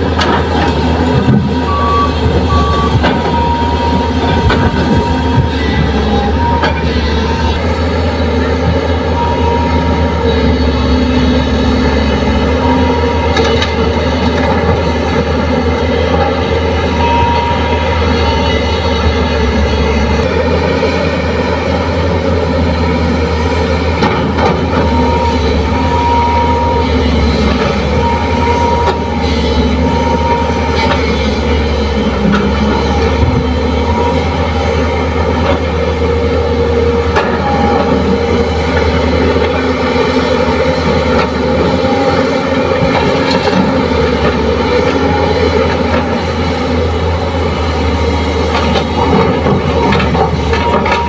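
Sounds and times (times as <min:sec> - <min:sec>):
excavator diesel engines droning: 0:00.0 - 0:51.0.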